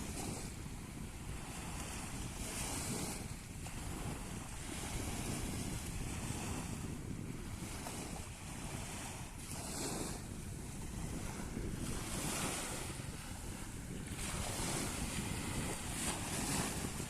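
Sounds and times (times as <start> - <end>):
sea waves washing in: 0.0 - 17.0
wind rumble on microphone: 0.0 - 17.0.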